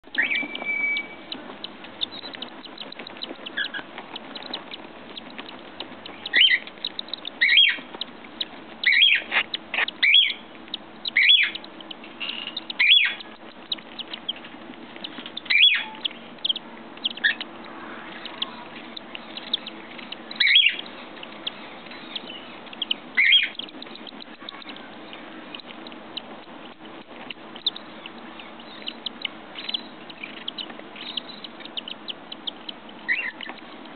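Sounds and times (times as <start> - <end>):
chicks giving raspy begging calls: 0.0 - 33.9
steady low hum: 0.0 - 33.9.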